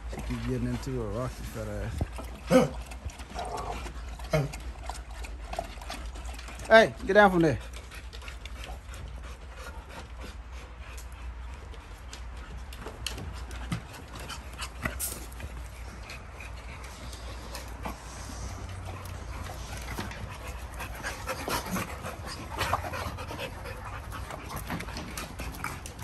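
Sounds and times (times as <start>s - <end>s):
dogs panting: 0.0s - 26.0s.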